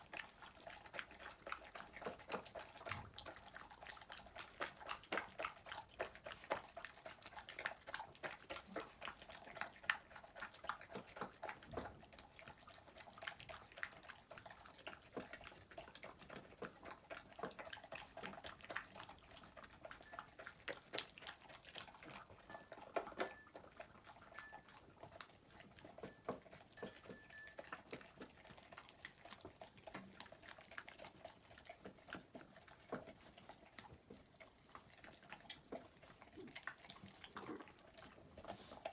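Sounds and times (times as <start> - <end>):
pet chewing: 0.0 - 38.9.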